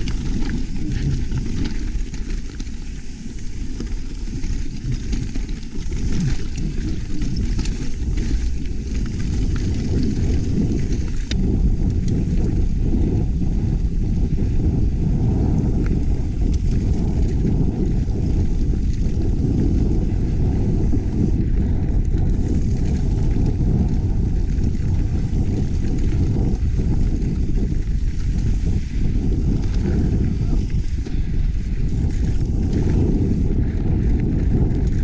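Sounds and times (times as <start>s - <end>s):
bike rolling on dirt trail: 0.0s - 35.0s
wind buffeting microphone: 0.0s - 35.0s.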